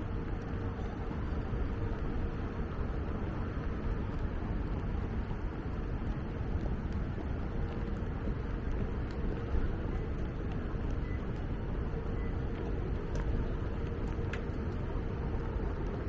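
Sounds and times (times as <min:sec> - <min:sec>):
faint steady hum: 0:00.0 - 0:16.0
traffic rumble: 0:00.0 - 0:16.0.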